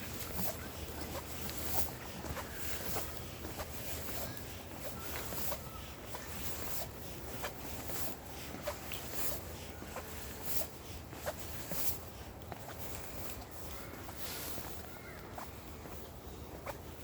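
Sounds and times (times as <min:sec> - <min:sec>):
footsteps walking: 0:00.0 - 0:17.0.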